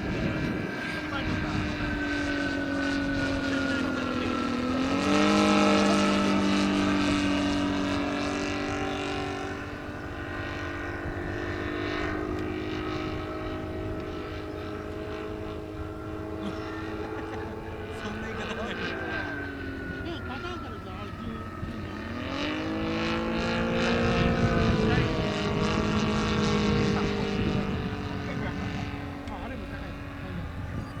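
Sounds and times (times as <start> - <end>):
model airplane engine running: 0.0 - 31.0.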